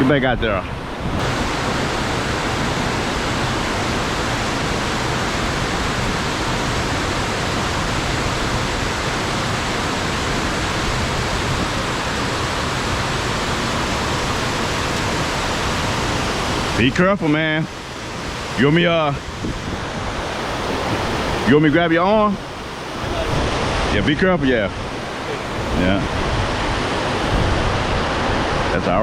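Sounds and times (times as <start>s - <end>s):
fast-flowing water rushing: 0.0s - 29.0s.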